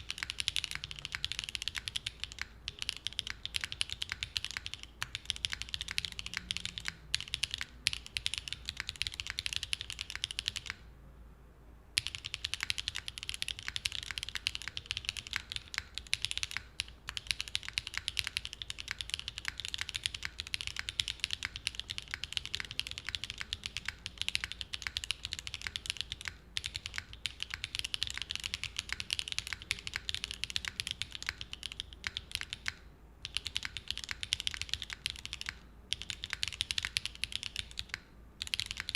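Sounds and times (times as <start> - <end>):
mechanical keyboard typing: 0.0 - 10.8, 12.0 - 38.9.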